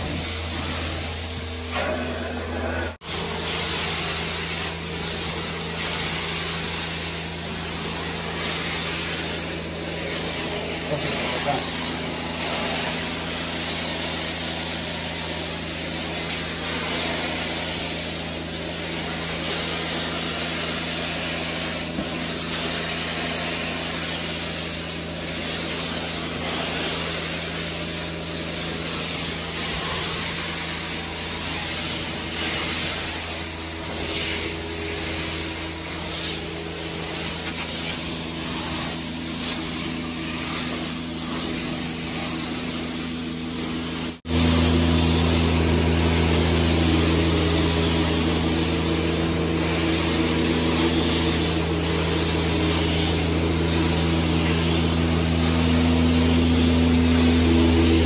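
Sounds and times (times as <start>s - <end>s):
carpet cleaning wand hissing: 0.0s - 58.0s
machine hum: 0.0s - 58.0s.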